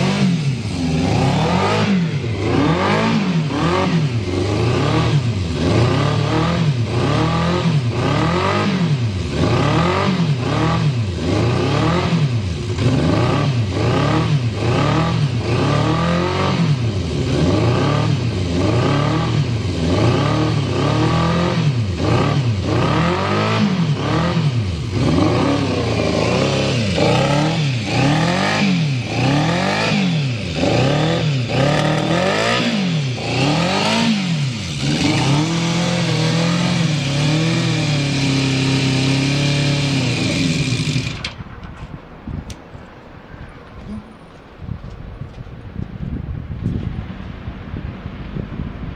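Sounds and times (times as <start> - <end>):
motorcycle engine revving: 0.0 - 41.7.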